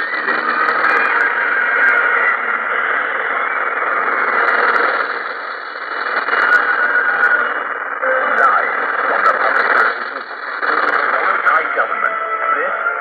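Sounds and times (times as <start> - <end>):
radio crackles: 0.0 - 13.0
shortwave radio static and hiss: 0.0 - 13.0.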